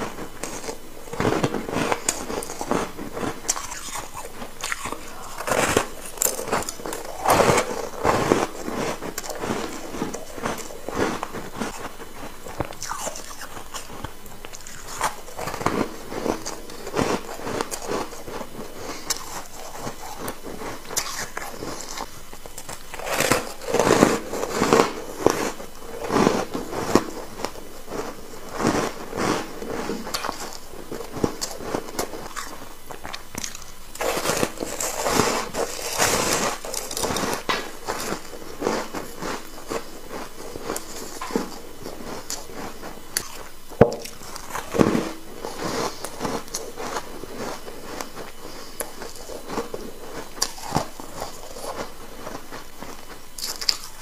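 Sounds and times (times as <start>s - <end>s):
ice bar crunching when chewed: 0.0s - 54.0s.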